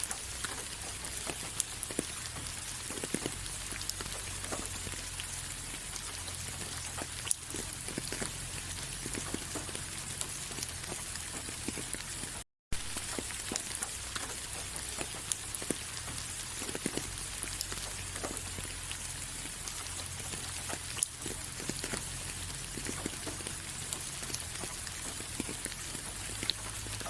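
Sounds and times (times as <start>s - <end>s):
raindrops ticking: 0.0s - 27.0s
steady rain hiss: 0.0s - 27.0s.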